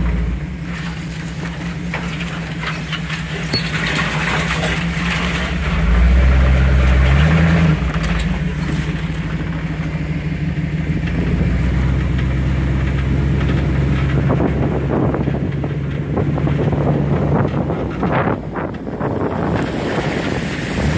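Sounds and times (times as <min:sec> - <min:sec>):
knocks and scrapes: 0:00.0 - 0:10.2, 0:10.8 - 0:20.9
vehicle engine revving: 0:00.0 - 0:20.9.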